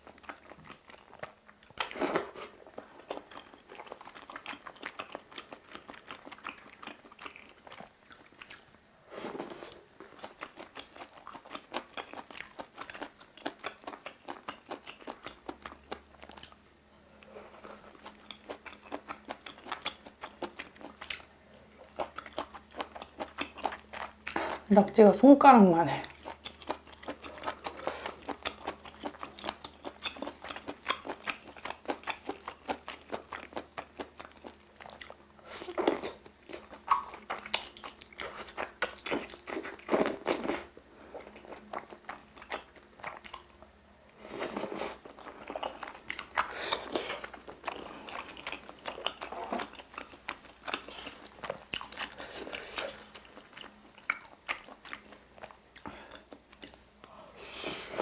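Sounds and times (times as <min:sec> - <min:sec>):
person chewing wetly: 0:00.0 - 0:16.6, 0:17.2 - 0:24.7, 0:26.0 - 0:57.2.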